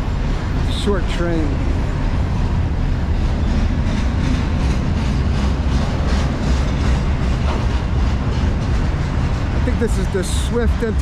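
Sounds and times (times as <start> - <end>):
freight train rumbling past: 0.0 - 11.0
wheels clicking over rail joints: 0.0 - 11.0.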